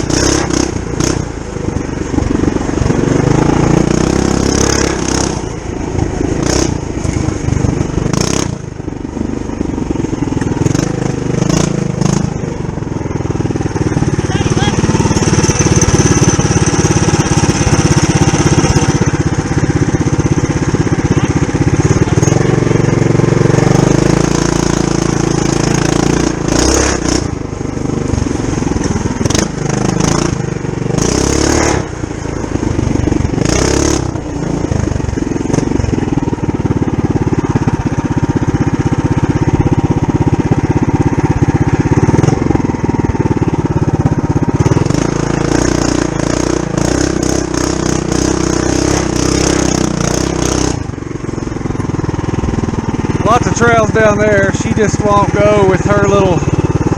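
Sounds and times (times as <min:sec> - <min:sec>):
mini bike engine running under load: 0:00.0 - 0:56.9.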